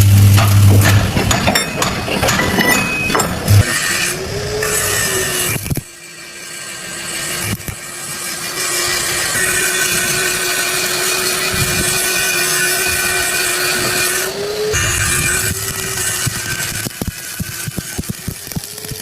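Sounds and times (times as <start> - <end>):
tool scraping metal: 0.0 - 18.6
power tool motor whine: 3.4 - 19.0.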